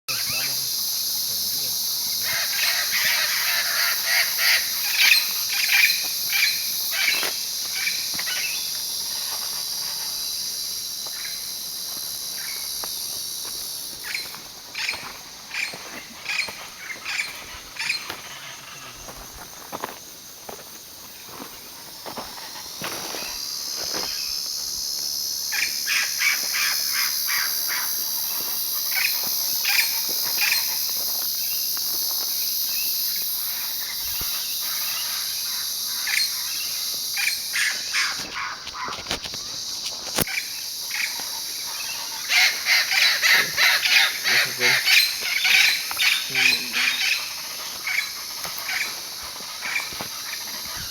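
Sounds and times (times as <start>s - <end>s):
insect chorus: 0.1s - 50.9s.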